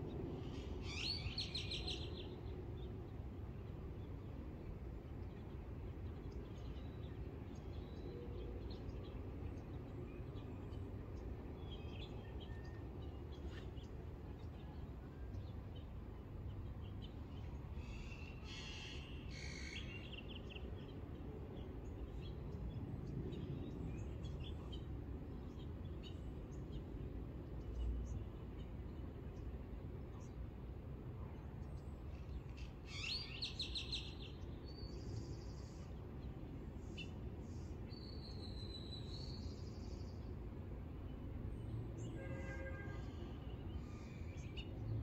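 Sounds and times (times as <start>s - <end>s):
songbirds chirping: 0.0s - 45.0s.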